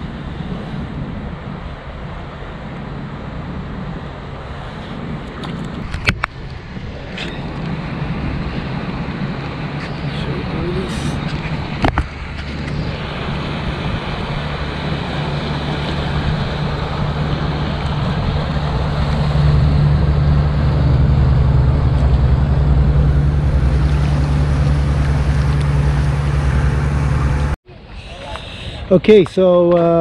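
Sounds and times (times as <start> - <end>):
boat engine humming: 0.0 - 29.0
water noise: 0.0 - 29.6.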